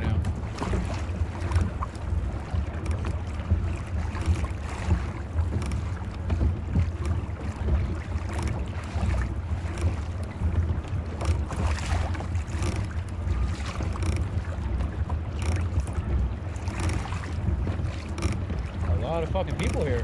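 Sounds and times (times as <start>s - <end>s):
water splashing against kayak hull: 0.0s - 20.0s.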